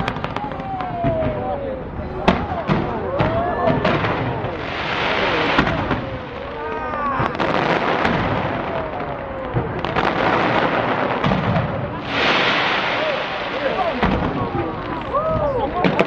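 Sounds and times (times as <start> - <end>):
fireworks bangs: 0.0 - 16.0
fireworks crackling and popping: 0.0 - 16.0.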